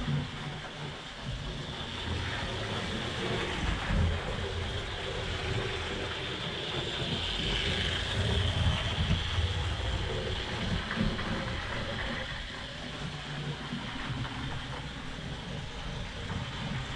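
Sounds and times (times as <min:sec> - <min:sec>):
model train motor hum: 0:00.0 - 0:16.9
rolling wheel noise: 0:00.0 - 0:16.9.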